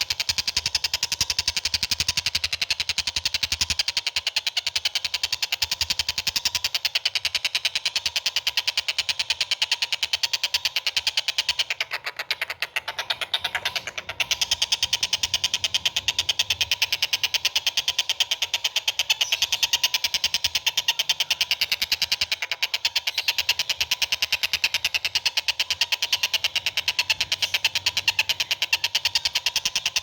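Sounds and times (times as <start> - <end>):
songbird rattling trill: 0.0 - 30.0.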